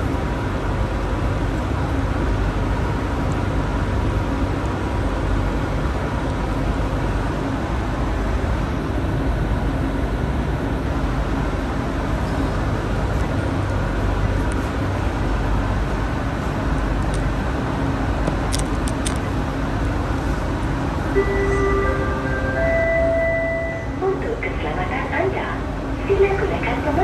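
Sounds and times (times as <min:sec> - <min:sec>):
faint motor hum: 0:00.0 - 0:27.0
train wheels rumbling on rail: 0:00.0 - 0:27.0.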